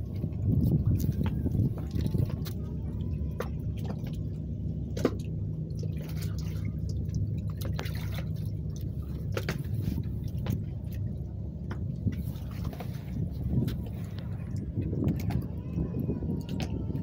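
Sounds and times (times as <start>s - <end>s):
small waves lapping: 0.0s - 17.0s
steady low hum: 0.0s - 17.0s
water drips: 0.2s - 17.0s.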